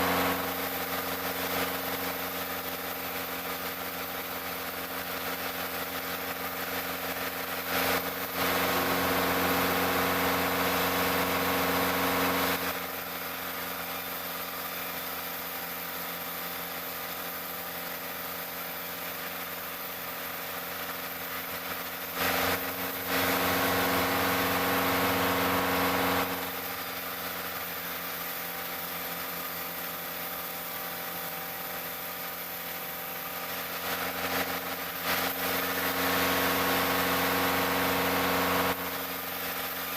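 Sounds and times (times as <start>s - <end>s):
sawmill machinery humming: 0.0s - 15.7s, 22.1s - 39.9s
saw cutting through log: 0.0s - 39.9s.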